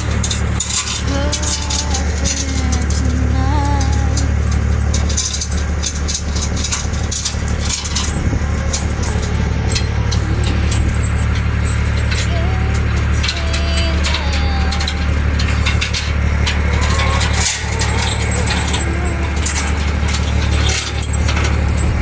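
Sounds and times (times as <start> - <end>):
large engine idling: 0.0 - 22.0
light clicks and rattles: 0.0 - 22.0.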